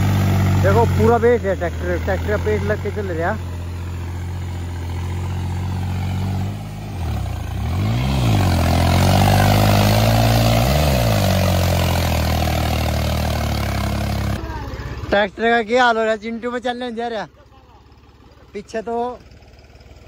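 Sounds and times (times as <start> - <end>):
tractor engine labouring: 0.0 - 20.0.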